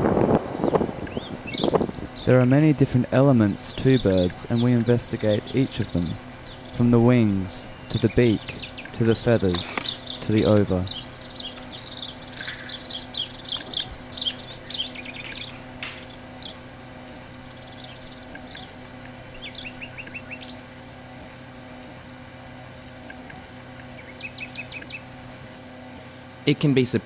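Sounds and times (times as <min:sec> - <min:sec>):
faint low hum: 0:00.0 - 0:27.0
small birds chirping: 0:00.4 - 0:26.4.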